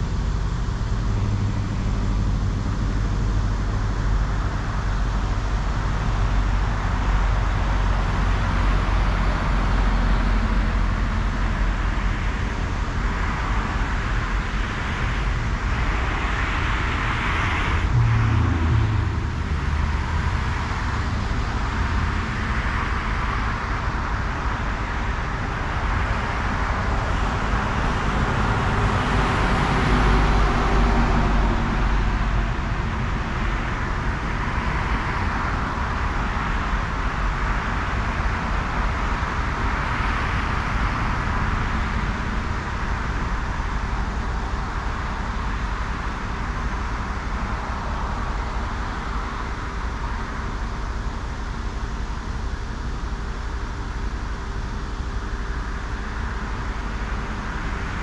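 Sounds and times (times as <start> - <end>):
deep rumble of passing vehicle: 0.0 - 58.0
highway traffic passing: 0.0 - 58.0.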